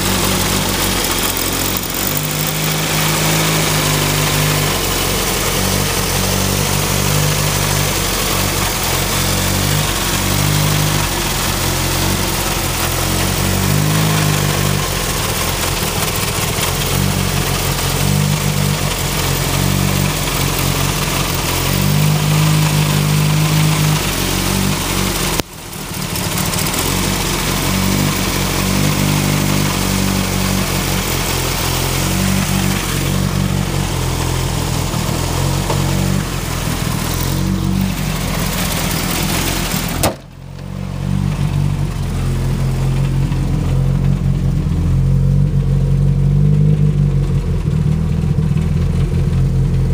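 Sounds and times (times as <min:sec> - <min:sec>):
car engine idling unevenly: 0:00.0 - 0:49.9.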